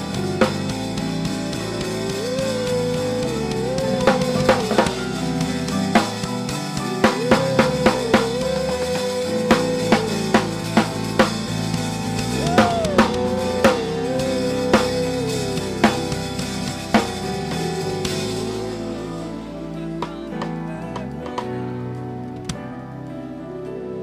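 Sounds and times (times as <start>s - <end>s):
drum kit strikes: 0.0s - 21.6s
worship band music: 0.0s - 24.0s.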